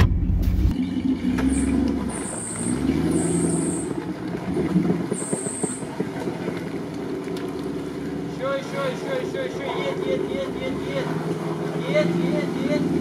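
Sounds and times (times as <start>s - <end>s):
suv engine revving: 0.0s - 6.1s, 7.0s - 13.0s.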